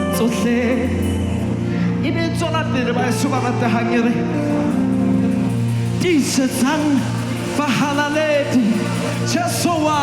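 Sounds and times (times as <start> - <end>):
gospel worship music: 0.0 - 10.0.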